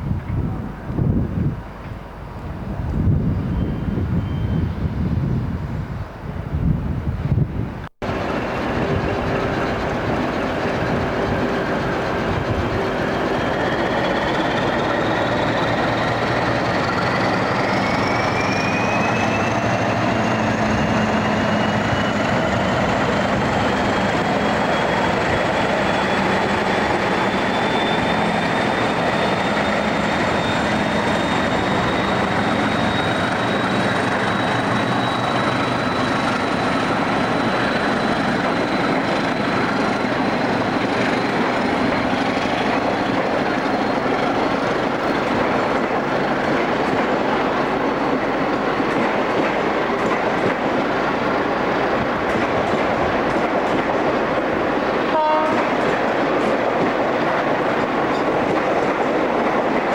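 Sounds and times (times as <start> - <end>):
rising train whine: 0.0 - 59.9
train rumbling: 0.0 - 59.9.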